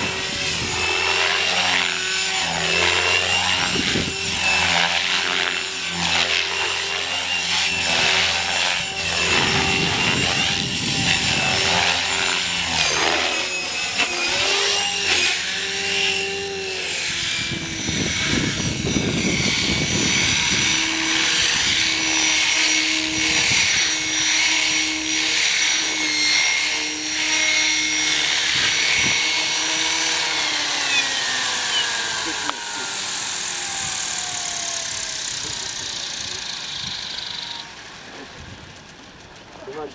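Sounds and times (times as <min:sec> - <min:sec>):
radio-controlled helicopter whine: 0:00.0 - 0:39.9.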